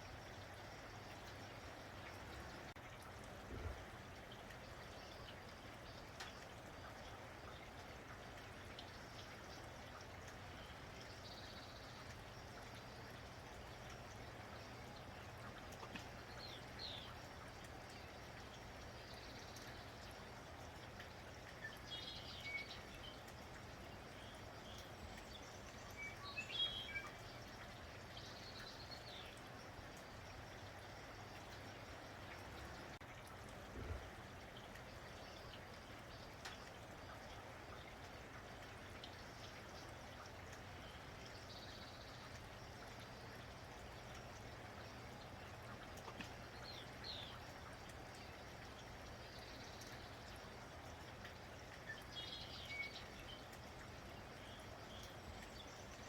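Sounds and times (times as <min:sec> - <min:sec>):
steady rain falling: 0:00.0 - 0:56.0
small birds chirping: 0:08.7 - 0:33.0, 0:33.9 - 0:56.0.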